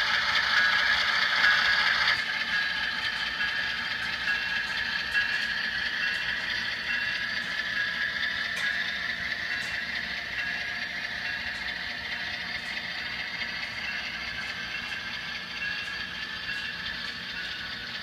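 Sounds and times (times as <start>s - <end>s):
small wheels rolling on rail: 0.0s - 18.0s.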